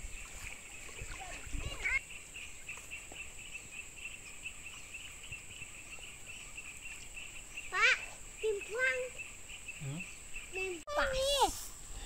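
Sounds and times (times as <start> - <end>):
insect chirping in pulses: 0.0 - 11.5.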